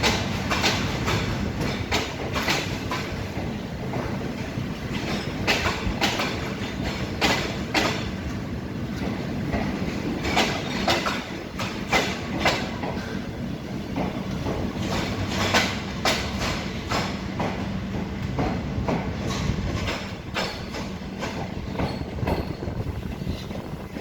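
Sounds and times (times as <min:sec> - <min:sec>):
train rumble: 0:00.0 - 0:24.0
train wheels clacking on rail joints: 0:00.0 - 0:24.0.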